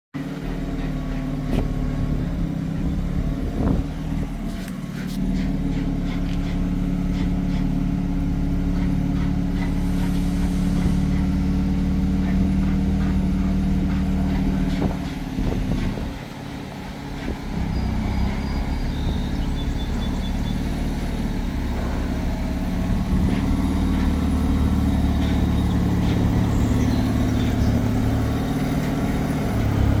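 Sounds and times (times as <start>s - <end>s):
heavy engine running: 0.2s - 30.0s.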